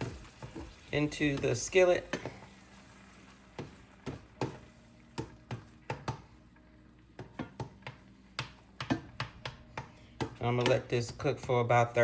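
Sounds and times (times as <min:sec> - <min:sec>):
utensil tapping a skillet: 0:00.0 - 0:02.5, 0:03.5 - 0:06.4, 0:07.1 - 0:11.8.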